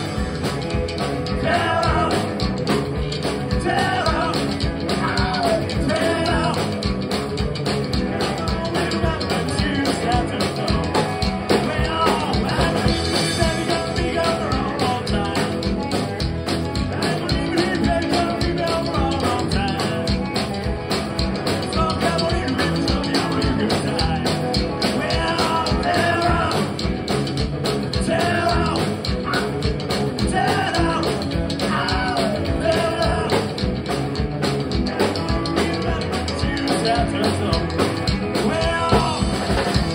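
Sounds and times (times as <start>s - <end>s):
person singing: 0.0s - 6.9s, 8.1s - 20.4s, 21.4s - 26.9s, 27.9s - 33.7s, 34.7s - 39.9s
rockabilly band playing: 0.0s - 39.9s.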